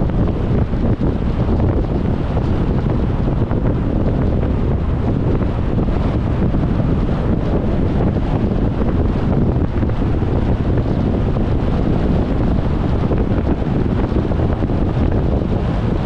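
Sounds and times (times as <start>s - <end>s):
car road noise: 0.0s - 16.0s
wind rumble: 0.0s - 16.0s.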